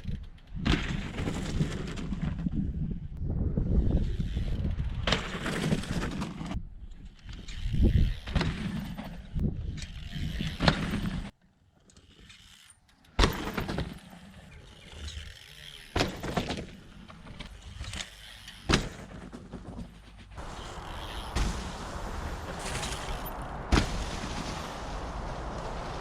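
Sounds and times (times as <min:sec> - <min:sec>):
bike tyre and frame clatter: 0:00.0 - 0:26.0.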